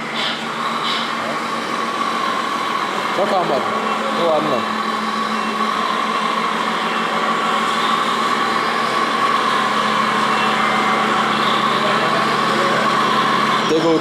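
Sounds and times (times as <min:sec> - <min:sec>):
model truck motor humming: 0:00.0 - 0:14.0.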